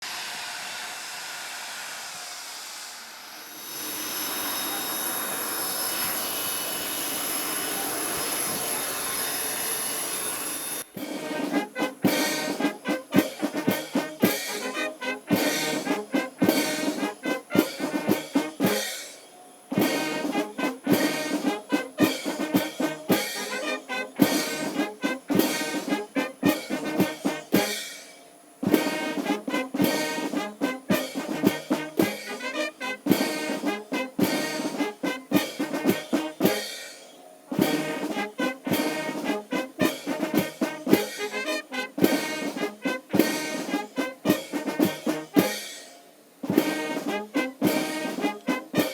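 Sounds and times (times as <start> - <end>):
brass band with drums: 6.0 - 48.9.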